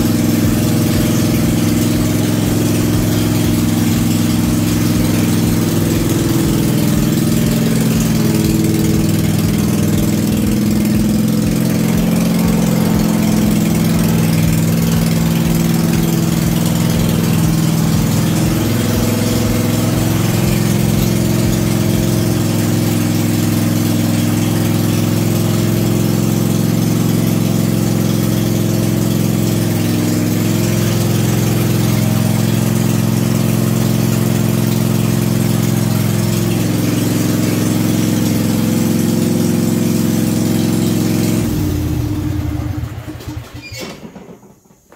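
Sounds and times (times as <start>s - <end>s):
lawn mower engine running: 0.0s - 44.9s.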